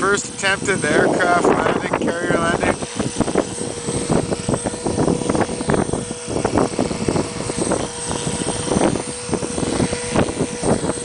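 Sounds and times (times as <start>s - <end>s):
rc helicopter rotor whine: 0.0s - 11.0s
wind on microphone: 0.0s - 11.0s.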